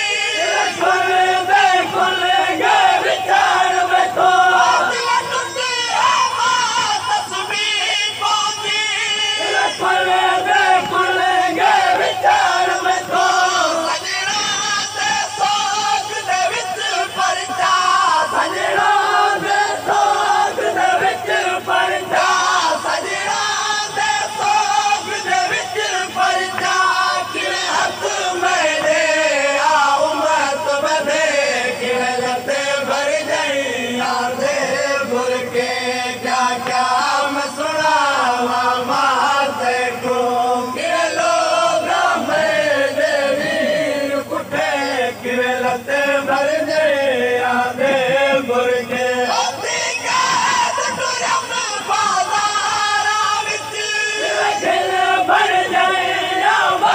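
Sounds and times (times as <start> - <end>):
crowd of men chanting: 0.0 - 56.9.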